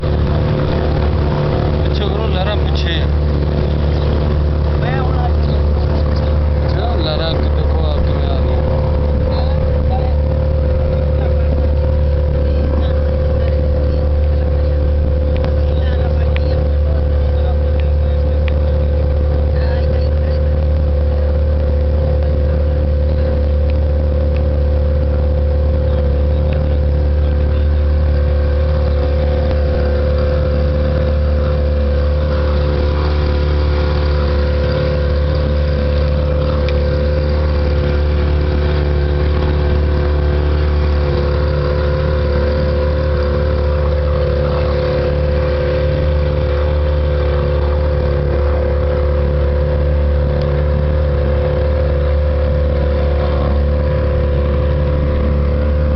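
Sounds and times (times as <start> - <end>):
motor engine running: 0.0 - 55.9.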